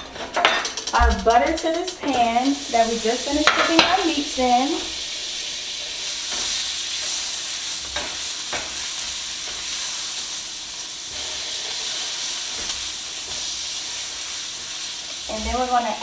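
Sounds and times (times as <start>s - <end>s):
butter sizzling in a frying pan: 0.4s - 16.0s.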